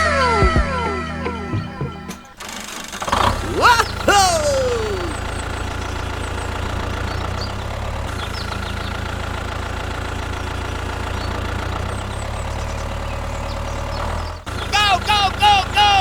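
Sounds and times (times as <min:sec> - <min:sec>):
tractor engine idling: 0:03.1 - 0:16.0.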